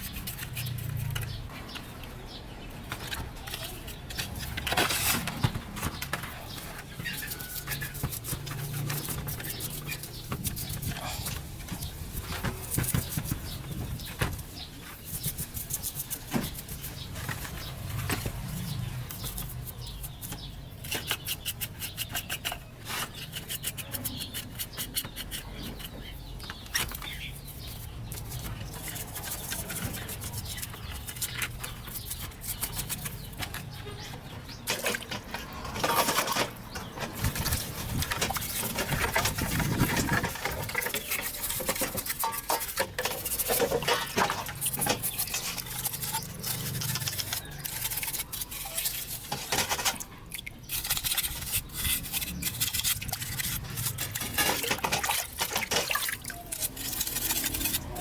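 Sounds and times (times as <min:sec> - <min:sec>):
rapid scraping strokes: 0:03.4 - 0:34.0, 0:34.6 - 0:50.0, 0:50.6 - 0:58.0.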